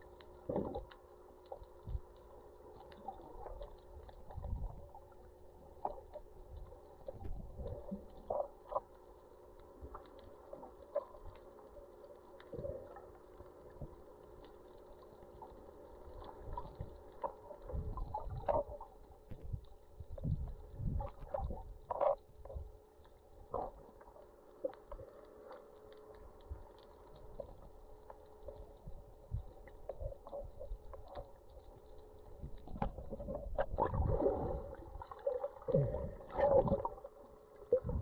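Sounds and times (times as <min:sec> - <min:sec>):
faint underwater drone: 0:00.0 - 0:38.0.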